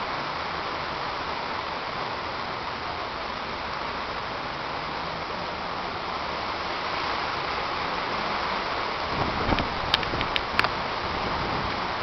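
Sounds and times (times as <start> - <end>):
heavy rain: 0.0 - 12.0
hurricane wind: 0.0 - 12.0.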